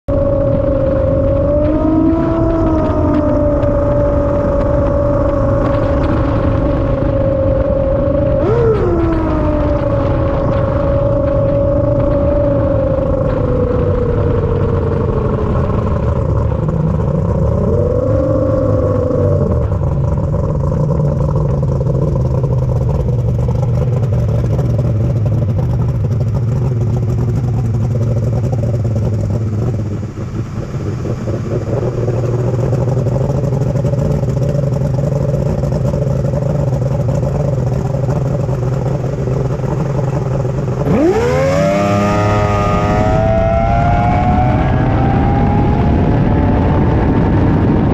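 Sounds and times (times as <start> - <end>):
boat engine idling and revving: 0.0 - 47.9.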